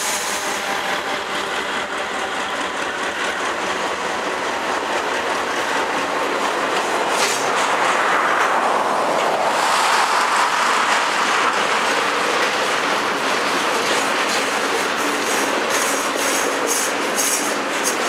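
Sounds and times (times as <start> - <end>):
wheels clicking over rail joints: 0.0 - 9.5, 10.4 - 18.0
steel wheels rushing on rail: 0.0 - 18.0.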